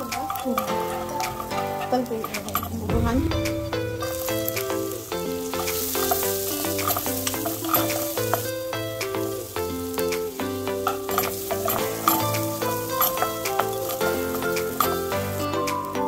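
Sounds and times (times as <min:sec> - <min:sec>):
spatula scraping a pan: 0:00.0 - 0:02.8, 0:04.1 - 0:15.8
light background music: 0:00.0 - 0:16.0
vegetables sizzling in oil: 0:00.0 - 0:16.0.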